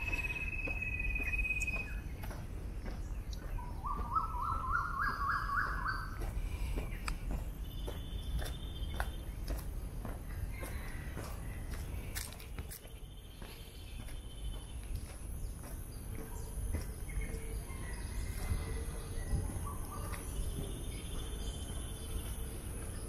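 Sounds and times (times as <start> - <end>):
birds chirping: 0.0 - 23.0
footsteps on a paved path: 0.0 - 23.0.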